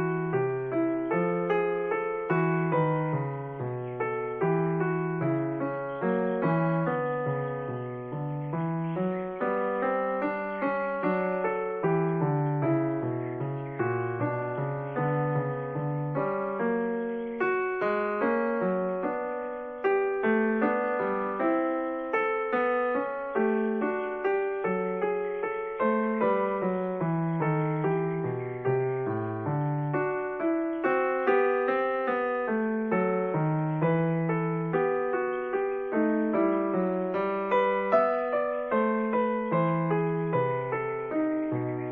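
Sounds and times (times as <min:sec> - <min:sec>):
gentle piano music: 0:00.0 - 0:41.9.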